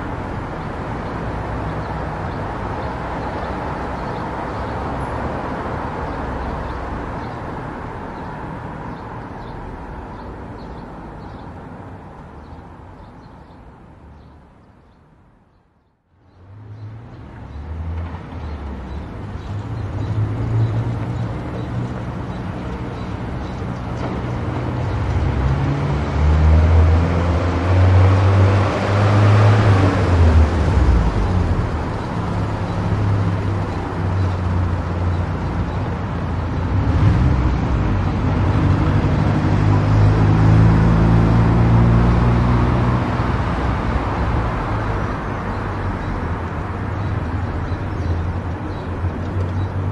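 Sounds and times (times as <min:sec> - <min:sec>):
tyre and road rush: 0:00.0 - 0:49.9.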